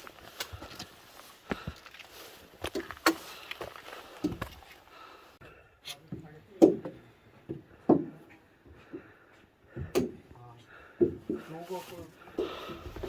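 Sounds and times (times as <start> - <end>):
footsteps on a trail: 0.0 - 5.6, 7.5 - 13.0.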